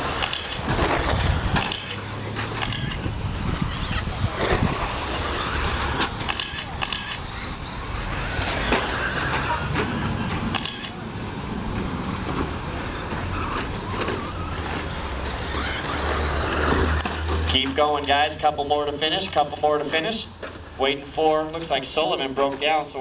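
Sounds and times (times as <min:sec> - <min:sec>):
toy car motor whine: 0:00.0 - 0:20.5
tyre and chassis noise: 0:00.0 - 0:23.0.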